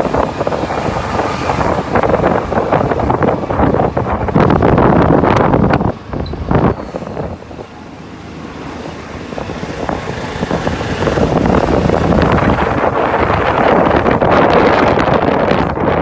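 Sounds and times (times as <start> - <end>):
road noise: 0.0 - 16.0
wind rushing over microphone: 0.0 - 16.0.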